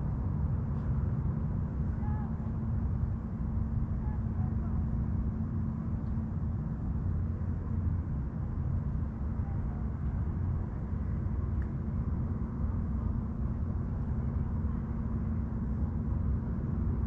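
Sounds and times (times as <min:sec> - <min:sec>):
distant motor drone: 0:00.0 - 0:17.0.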